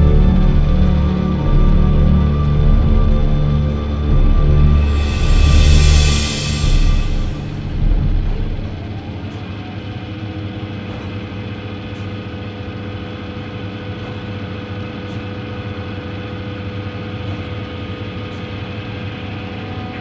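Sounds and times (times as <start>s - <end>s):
factory machinery drone: 0.0s - 20.0s.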